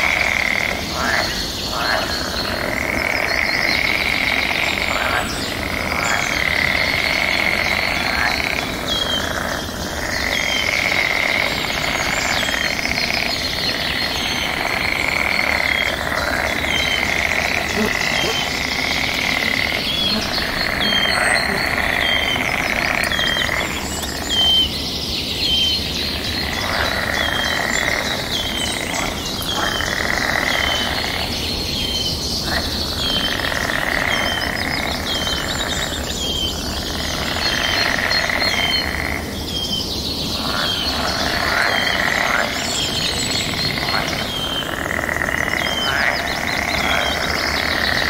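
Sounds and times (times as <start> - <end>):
chorus of bird calls: 0.0 - 48.0.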